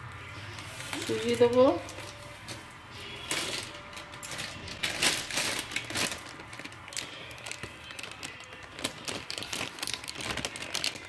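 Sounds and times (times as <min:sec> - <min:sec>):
plastic packets rustling: 0:00.5 - 0:11.0.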